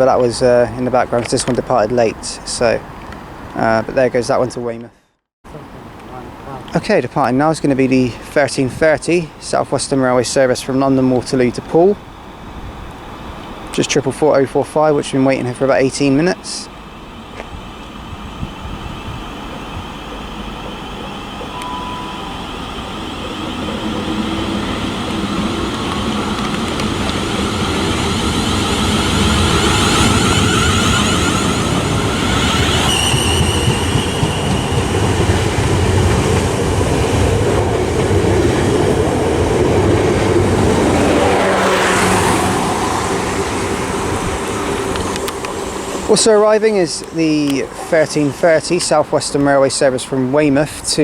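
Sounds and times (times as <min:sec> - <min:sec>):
electric train pulling away: 0:08.8 - 0:49.7.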